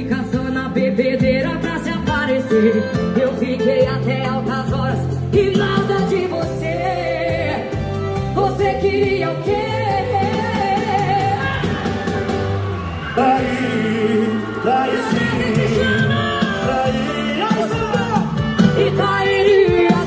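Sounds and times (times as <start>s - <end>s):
pop song with heavy bass: 0.0s - 20.0s.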